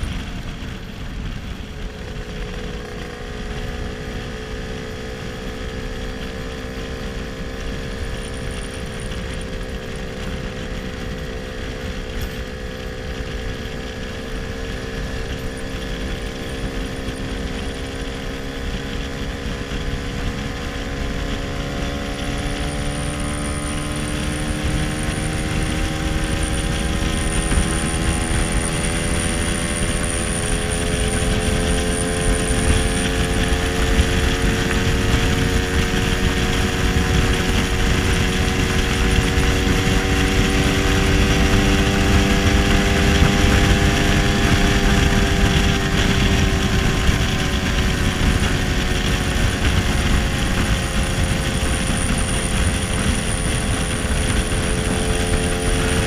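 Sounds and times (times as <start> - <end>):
scooter engine accelerating: 0.0 - 56.0
wind rush on microphone: 0.0 - 56.0.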